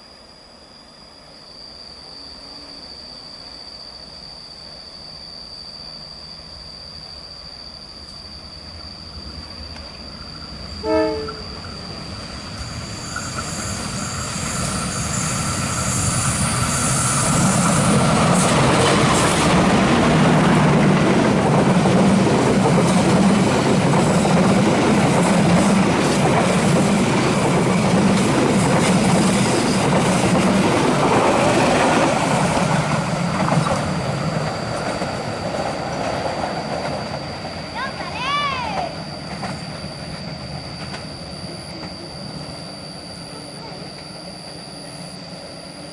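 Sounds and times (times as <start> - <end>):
train passing on rails: 0.0 - 45.9.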